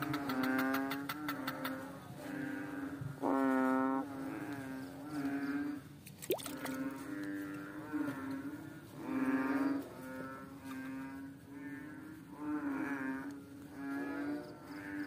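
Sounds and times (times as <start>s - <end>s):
frogs croaking in chorus: 0.0s - 15.0s.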